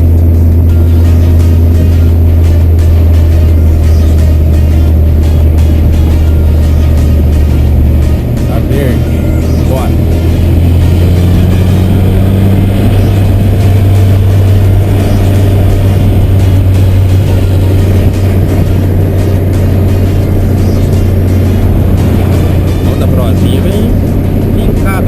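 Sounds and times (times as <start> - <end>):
car engine running steadily: 0.0 - 25.0
higher tone: 0.0 - 25.0.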